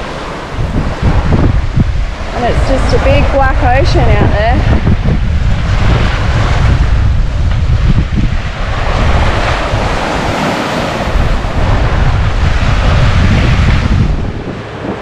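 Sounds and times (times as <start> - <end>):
boat wake rushing: 0.0 - 15.0
waves breaking: 0.0 - 15.0
wind buffeting microphone: 0.0 - 15.0.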